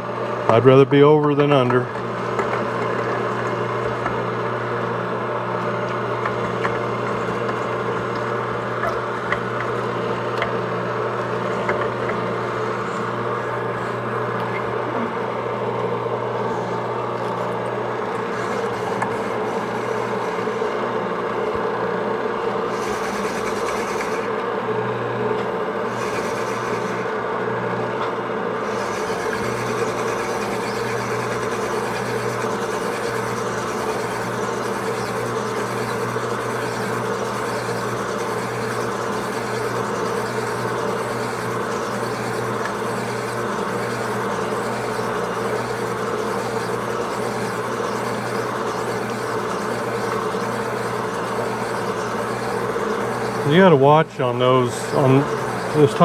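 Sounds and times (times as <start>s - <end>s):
honing machine grinding: 5.4s - 21.8s, 22.4s - 24.4s, 25.5s - 27.8s, 28.6s - 56.0s.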